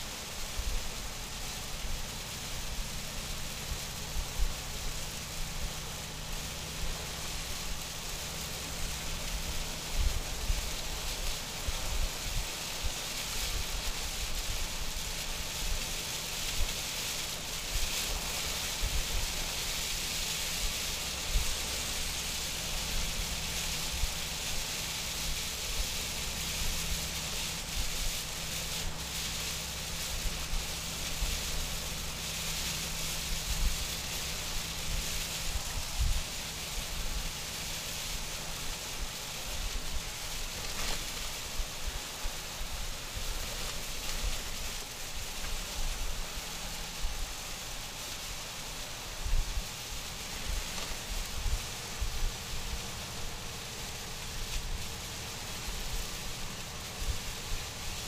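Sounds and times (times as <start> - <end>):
rain and tyre spray: 0.0 - 58.0.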